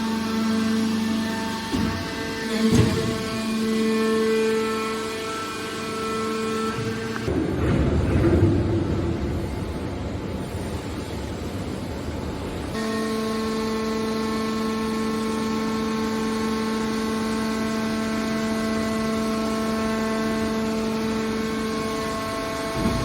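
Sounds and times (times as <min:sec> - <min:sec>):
machine noise: 0:00.0 - 0:23.0
steady hydraulic hum: 0:00.0 - 0:23.0.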